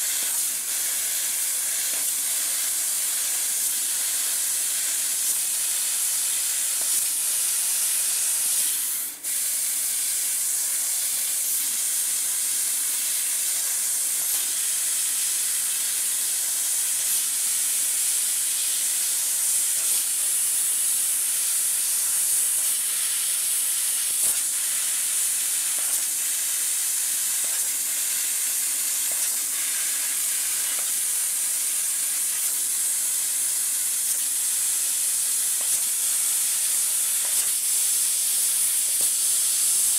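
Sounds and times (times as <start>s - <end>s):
gas jet hissing: 0.0s - 39.9s.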